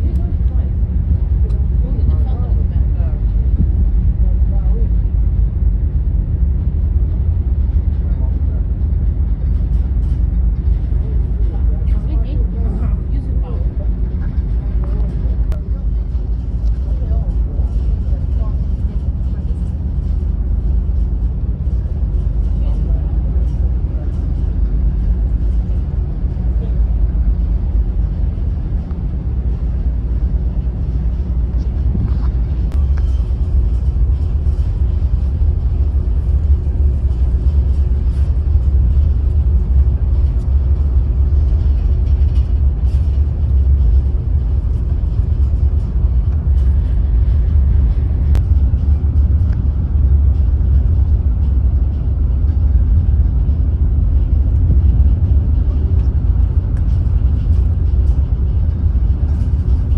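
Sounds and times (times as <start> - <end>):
vehicle rumble from on board: 0.0 - 59.9.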